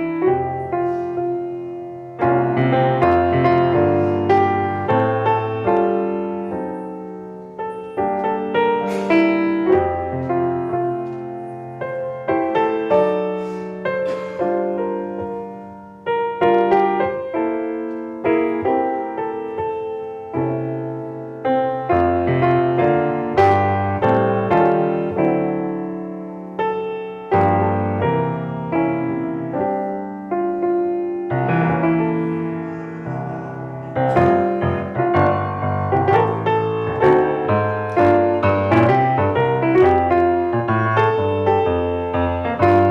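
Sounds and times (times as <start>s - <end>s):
slow solo piano piece: 0.0s - 42.9s.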